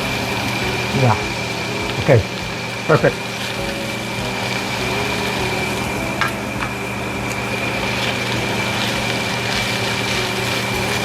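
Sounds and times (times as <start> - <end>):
high whine: 0.0 - 11.0.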